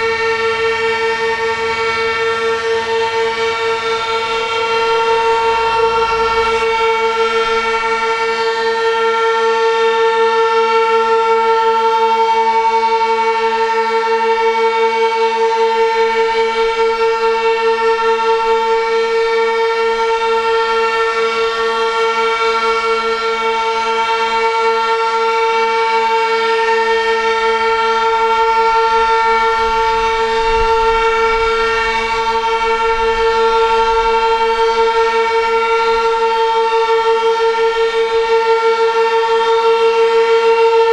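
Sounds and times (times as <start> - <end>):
warning sirens steady tone: 0.0 - 40.9.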